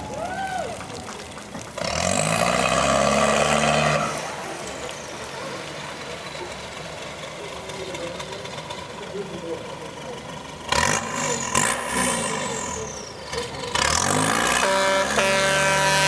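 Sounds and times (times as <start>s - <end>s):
boat engine throttling: 0.0s - 16.0s
water churning: 0.0s - 16.0s.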